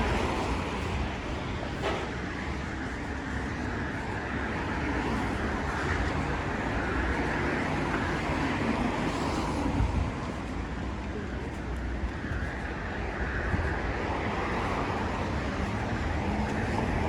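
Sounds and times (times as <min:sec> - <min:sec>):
traffic rumble: 0:00.0 - 0:17.0
tyres on wet asphalt: 0:00.0 - 0:17.0.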